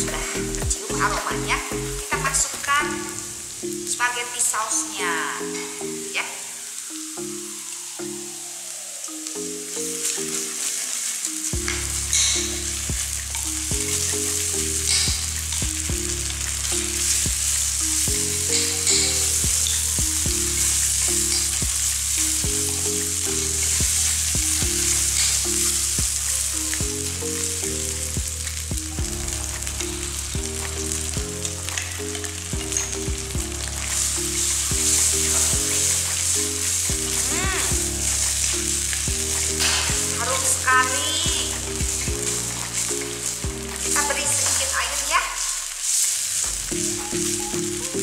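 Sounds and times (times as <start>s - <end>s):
background music: 0.0s - 48.0s
sauce and onion sizzling in a wok: 0.0s - 48.0s.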